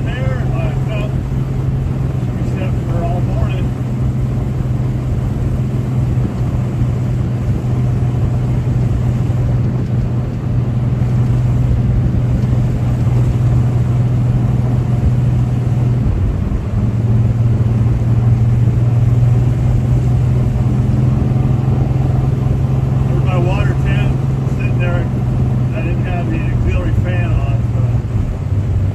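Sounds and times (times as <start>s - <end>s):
pickup engine cruising: 0.0s - 28.9s.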